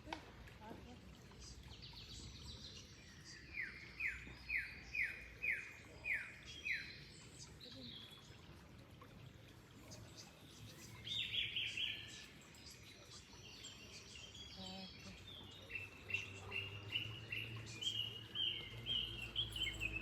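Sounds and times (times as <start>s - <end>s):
songbird singing down-slurred notes: 0.1s - 20.0s.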